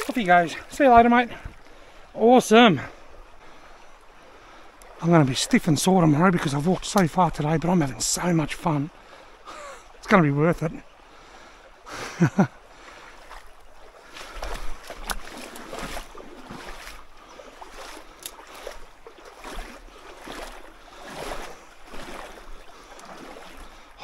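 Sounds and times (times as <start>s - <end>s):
footsteps swishing through creek: 0.0s - 24.0s.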